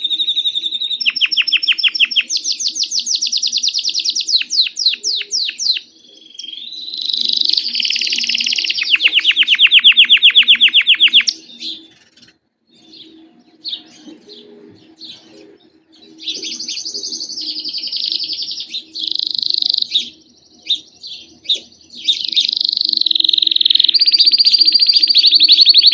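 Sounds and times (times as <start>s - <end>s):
canary singing rapid trills: 0.0s - 25.9s.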